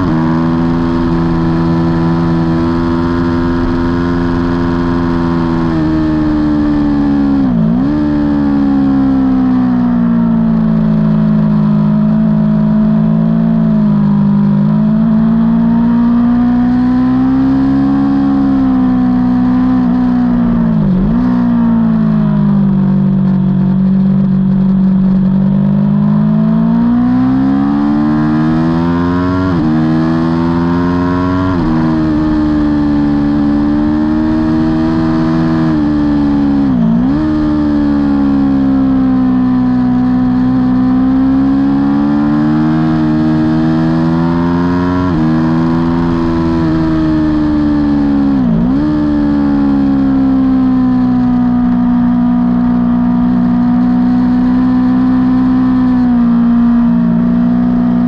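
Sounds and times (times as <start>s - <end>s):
motorcycle engine at race pace: 0.0s - 58.0s.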